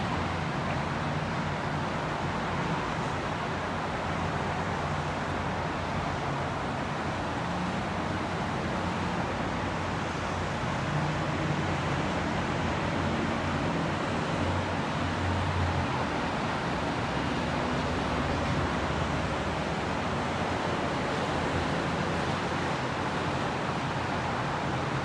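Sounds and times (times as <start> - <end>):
freeway traffic hum: 0.0 - 25.0.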